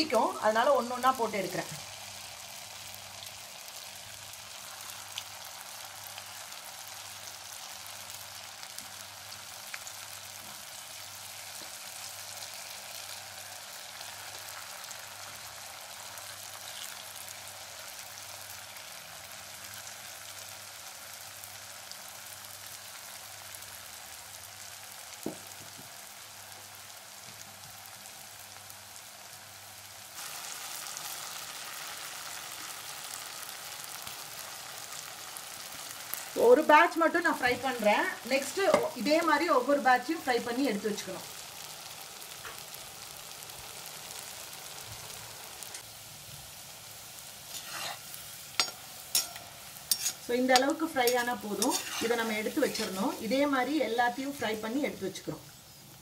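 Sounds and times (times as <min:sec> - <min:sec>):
deep-frying sizzle in oil: 0:00.0 - 0:56.0.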